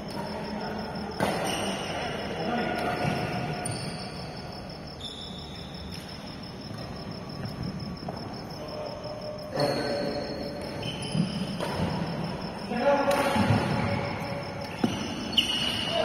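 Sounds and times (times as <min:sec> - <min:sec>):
high pulsing chirp: 0:00.0 - 0:16.0.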